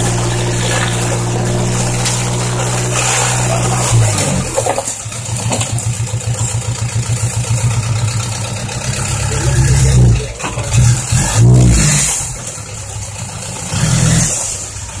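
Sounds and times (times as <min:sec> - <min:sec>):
dump truck diesel engine: 0:00.0 - 0:15.0.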